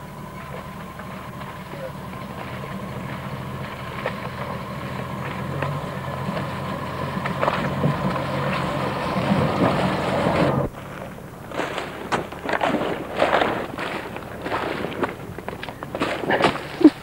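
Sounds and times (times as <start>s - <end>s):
car engine at low revs: 0.0s - 17.0s.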